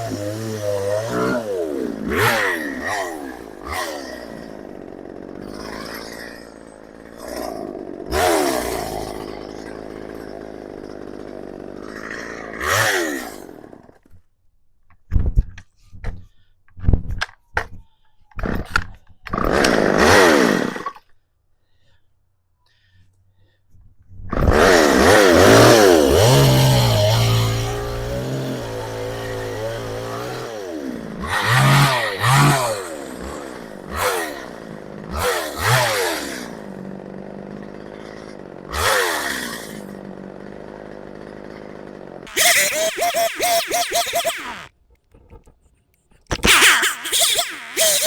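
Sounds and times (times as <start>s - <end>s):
chainsaw engine revving: 0.0s - 14.0s, 18.4s - 21.0s, 24.3s - 44.7s, 46.3s - 48.0s.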